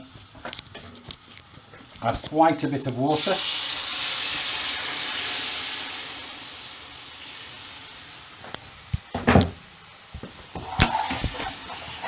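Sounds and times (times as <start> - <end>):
water sizzling in hot pan: 0.0 - 12.0.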